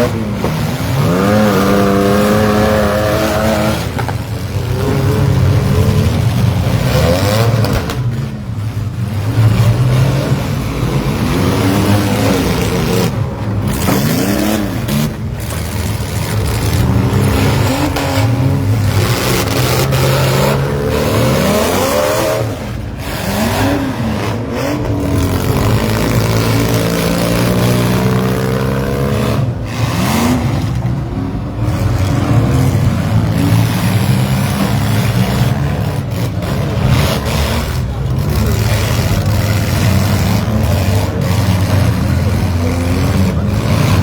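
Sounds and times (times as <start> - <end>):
engines revving: 0.0 - 44.0.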